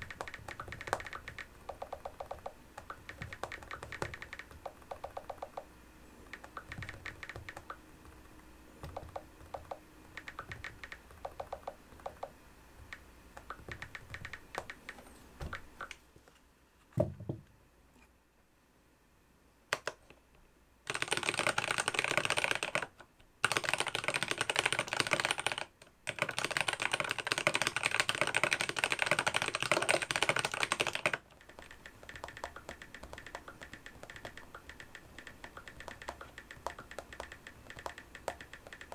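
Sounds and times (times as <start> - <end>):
typing on keyboard: 0.0 - 15.9, 20.9 - 38.9.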